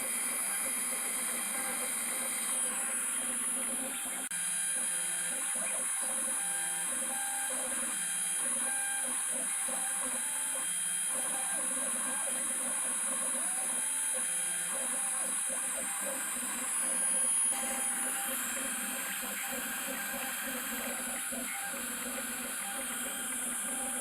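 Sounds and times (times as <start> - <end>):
steady high-pitched whine: 0.0 - 24.0.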